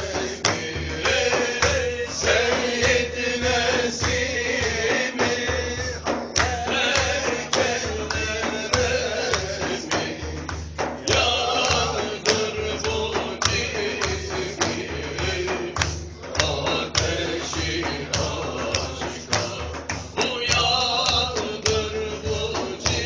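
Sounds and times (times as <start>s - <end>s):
hand drum beats: 0.0s - 23.0s.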